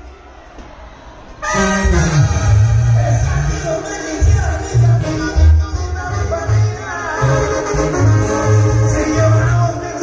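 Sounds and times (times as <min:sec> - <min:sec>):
heavy bass notes: 0:01.4 - 0:10.0
live band music: 0:01.4 - 0:10.0.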